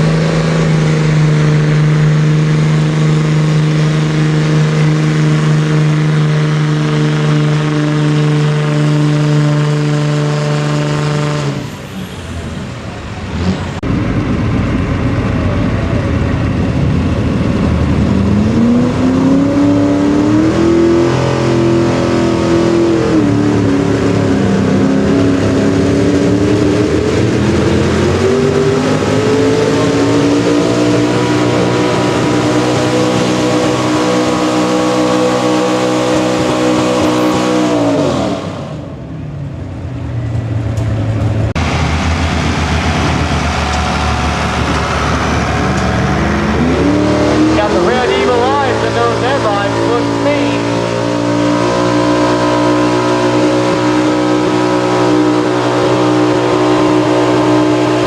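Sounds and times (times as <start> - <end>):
truck engine climbing in pitch: 0.0 - 58.0
truck engine under full load: 0.0 - 58.0.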